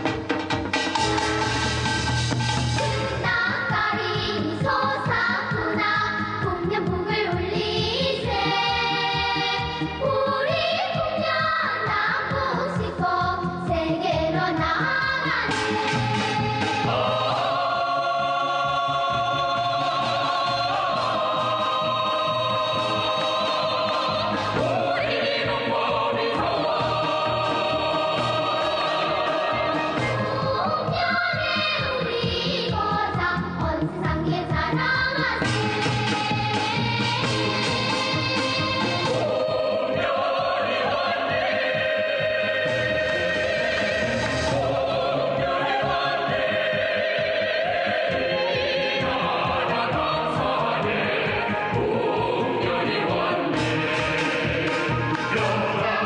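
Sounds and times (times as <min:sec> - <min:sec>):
instrumental accompaniment: 0:00.0 - 0:56.0
choir singing with vibrato: 0:02.7 - 0:56.0.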